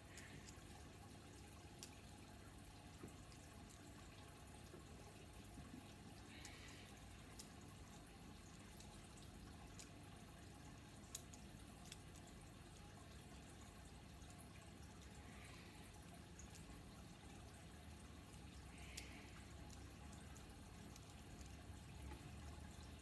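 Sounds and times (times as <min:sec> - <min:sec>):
faint room hum: 0:00.0 - 0:23.0.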